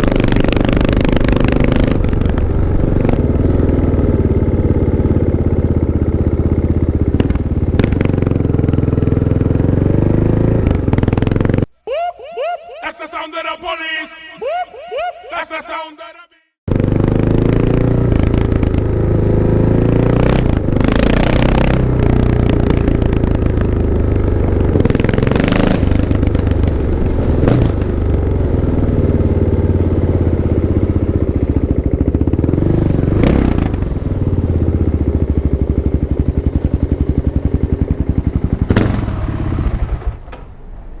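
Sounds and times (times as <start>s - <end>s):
motorcycle engine revving: 0.0s - 11.7s, 16.7s - 40.5s.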